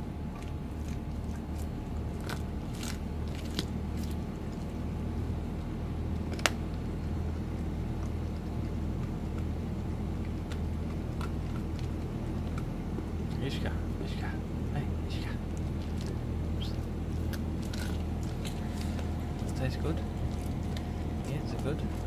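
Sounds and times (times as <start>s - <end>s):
low hum: 0.0s - 22.0s
dog crunching bone: 0.1s - 13.7s, 15.4s - 22.0s.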